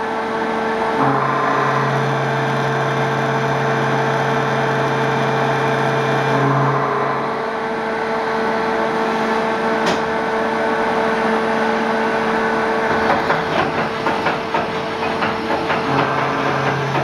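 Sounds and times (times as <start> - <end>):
machine whine and hum: 0.0 - 17.0.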